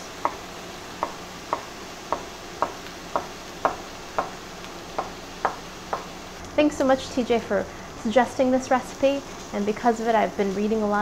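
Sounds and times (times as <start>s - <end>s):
onions sizzling in a skillet: 0.0s - 11.0s.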